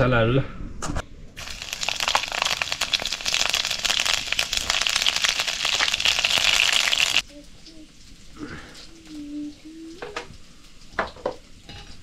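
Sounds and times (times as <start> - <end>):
hot oil sizzling in a wok: 1.4 - 12.0.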